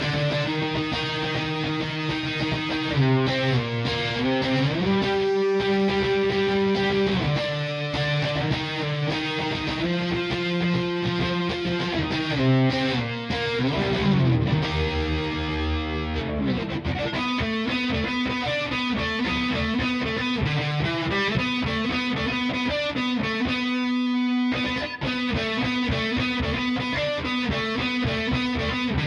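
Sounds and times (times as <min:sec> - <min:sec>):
distorted electric guitar riffs: 0:00.0 - 0:29.0.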